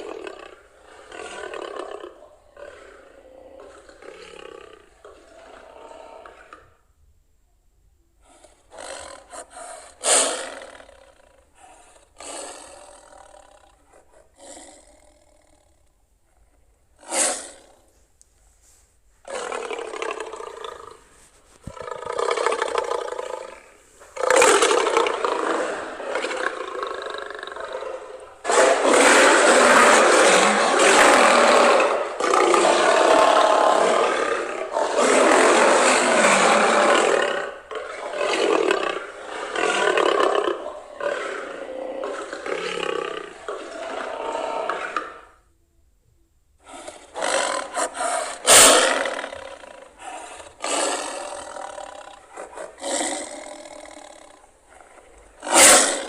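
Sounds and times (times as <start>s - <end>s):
lion roaring: 0.0s - 6.9s, 8.3s - 15.9s, 16.5s - 17.9s, 19.3s - 21.1s, 21.7s - 45.4s, 46.6s - 56.0s.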